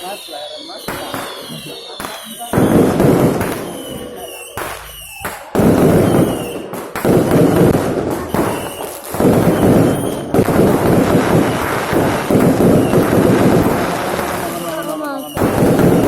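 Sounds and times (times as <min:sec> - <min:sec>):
fireworks banging: 0:00.0 - 0:16.0.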